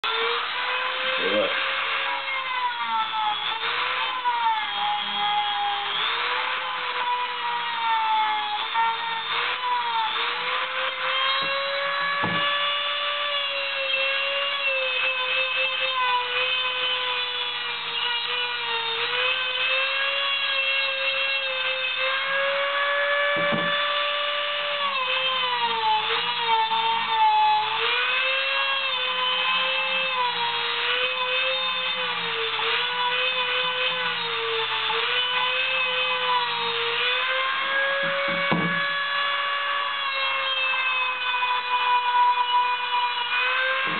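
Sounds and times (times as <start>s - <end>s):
rotary tool cutting metal: 0.0s - 43.9s.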